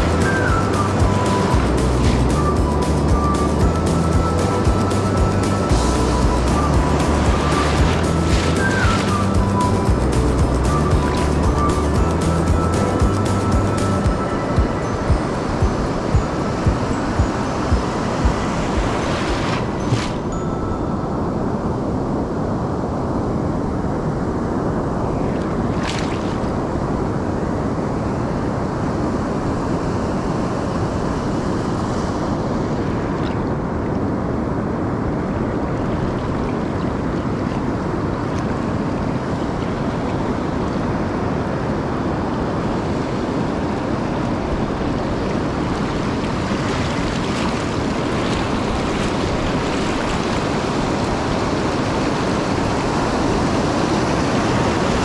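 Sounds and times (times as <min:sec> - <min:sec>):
ocean surf washing onto beach: 0:00.0 - 0:55.0
wind on microphone: 0:00.0 - 0:55.0.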